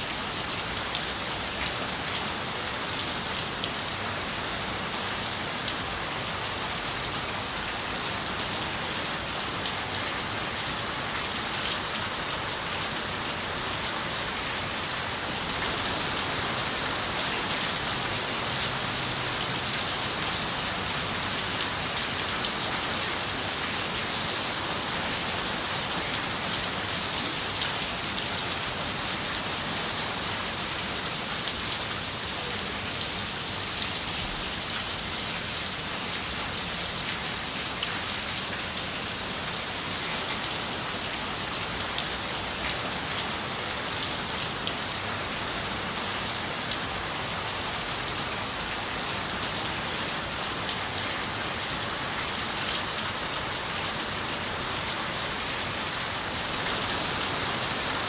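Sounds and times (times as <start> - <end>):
rain on a window: 0.0 - 54.8.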